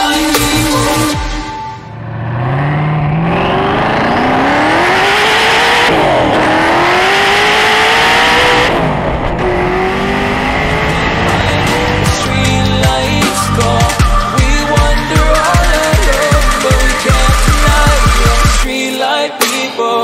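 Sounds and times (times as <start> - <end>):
car engine accelerating: 1.9 - 18.6.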